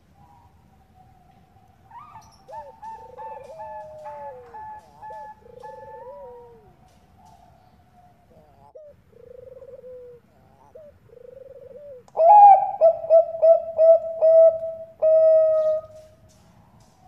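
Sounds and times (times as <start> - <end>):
doves cooing: 0.0 - 17.0.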